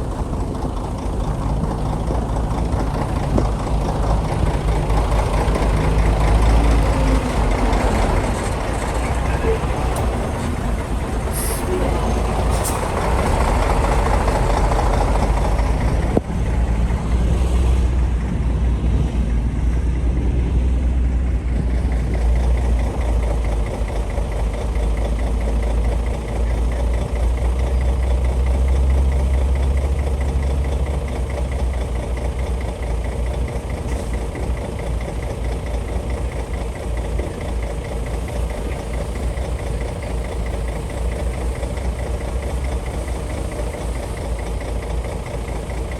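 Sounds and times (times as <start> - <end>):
bulldozer diesel engine under load: 0.0 - 45.9.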